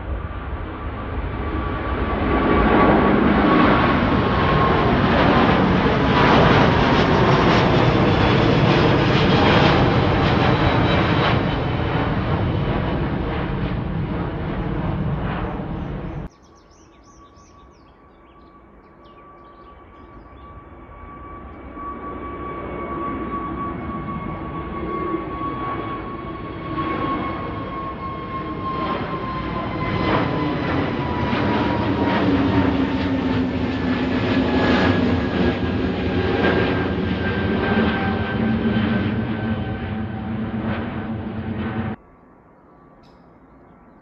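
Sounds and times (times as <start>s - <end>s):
jet airliner engine noise: 0.0s - 44.0s
steady jet whine: 0.0s - 44.0s.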